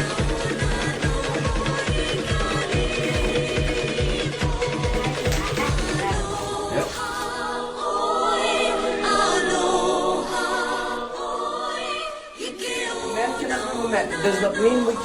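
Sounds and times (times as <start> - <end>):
choir singing unaccompanied: 0.0 - 15.0.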